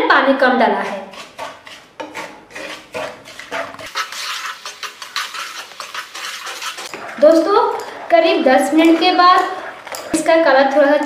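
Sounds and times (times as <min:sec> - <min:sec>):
wooden spatula scraping a pan: 0:00.4 - 0:11.0
syrup bubbling: 0:01.2 - 0:10.8.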